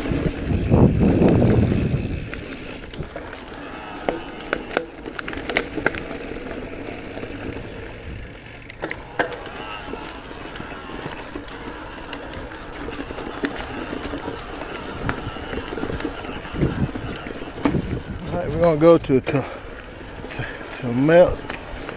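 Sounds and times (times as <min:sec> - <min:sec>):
bike rattling: 0:00.0 - 0:21.9
bike tyres rumbling on dirt: 0:00.0 - 0:21.9
clicks and knocks over bumps: 0:02.3 - 0:20.8.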